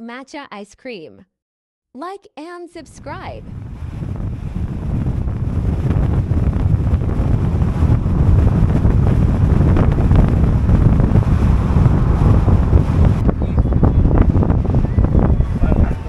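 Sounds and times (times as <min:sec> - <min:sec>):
wind buffeting microphone: 0:02.9 - 0:16.0.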